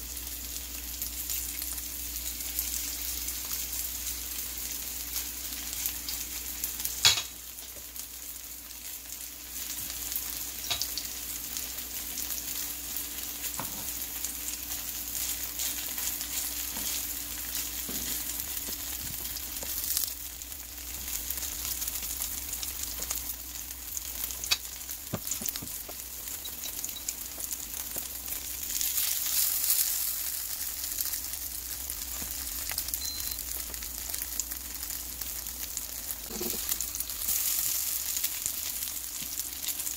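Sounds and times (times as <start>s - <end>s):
patties sizzling in oil: 0.0s - 39.9s.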